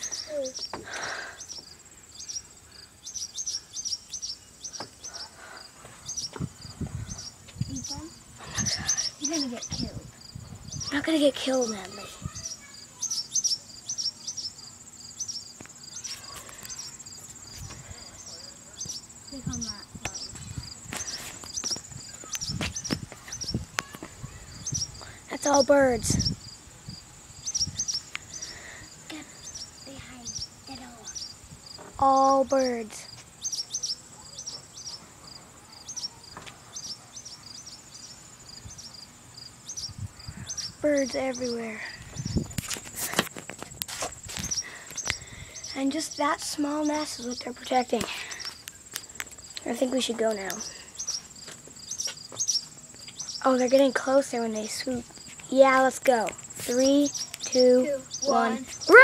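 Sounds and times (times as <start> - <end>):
birds alarm chirps: 0.0 - 42.6, 44.2 - 59.0
high-pitched insect trill: 0.0 - 59.0.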